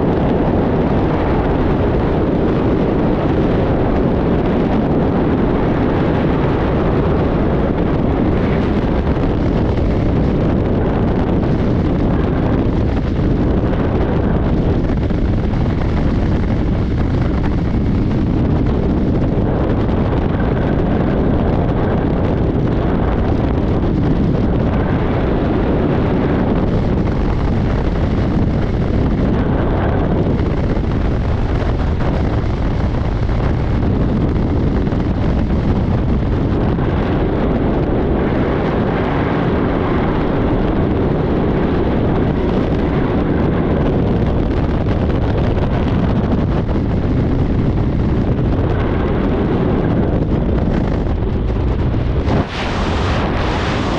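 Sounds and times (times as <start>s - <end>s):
wind roaring over microphone: 0.0s - 53.9s.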